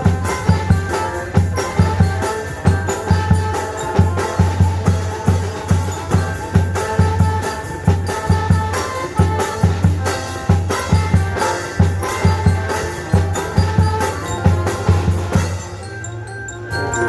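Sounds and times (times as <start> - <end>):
music with syncopated drum beat: 0.0 - 17.0.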